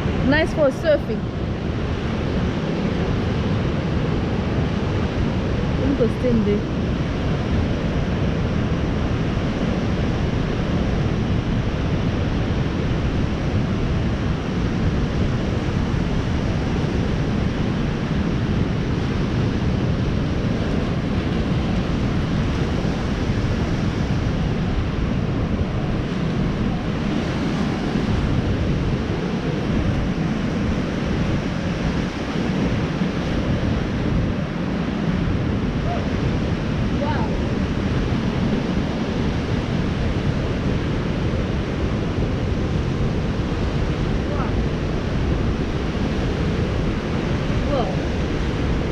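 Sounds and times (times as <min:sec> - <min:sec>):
ocean surf breaking: 0:00.0 - 0:48.9
wind buffeting microphone: 0:00.0 - 0:48.9.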